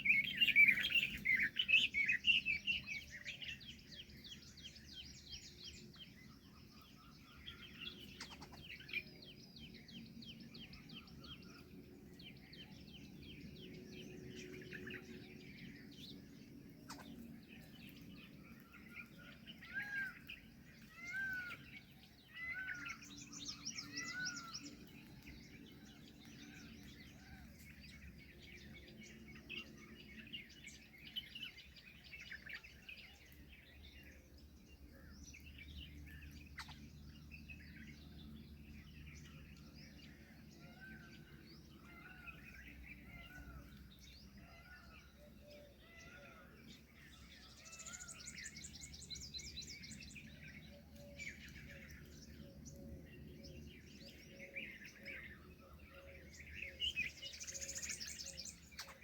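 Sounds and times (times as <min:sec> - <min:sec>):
birds calling and chirping: 0:00.0 - 0:59.0.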